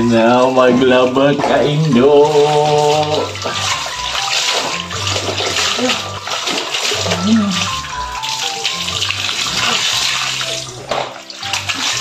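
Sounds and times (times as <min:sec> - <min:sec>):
background music: 0:00.0 - 0:12.0
water splashing into washing machine: 0:00.0 - 0:12.0.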